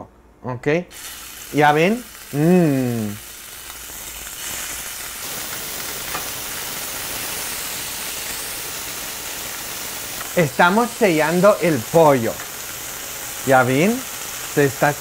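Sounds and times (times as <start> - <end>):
chicken searing in oil: 0.9 - 15.0.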